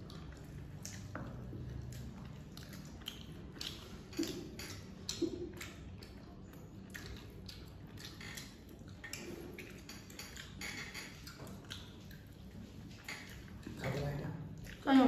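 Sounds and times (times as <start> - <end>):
wet chewing and lip smacks: 0.0 - 15.0.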